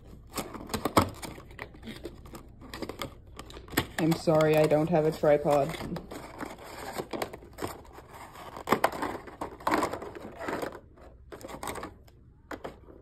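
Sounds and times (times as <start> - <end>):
cardboard packaging rustling: 0.0 - 13.0.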